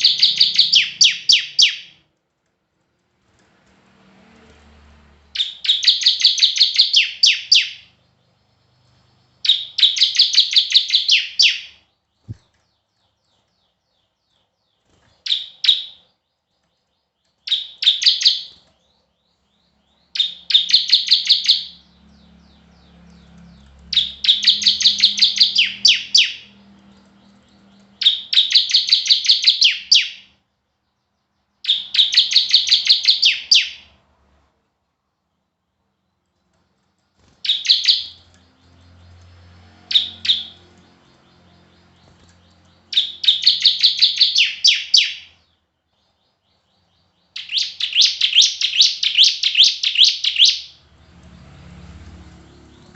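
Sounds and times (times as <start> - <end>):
songbird singing: 0.0 - 2.1, 5.3 - 34.0, 35.2 - 52.9.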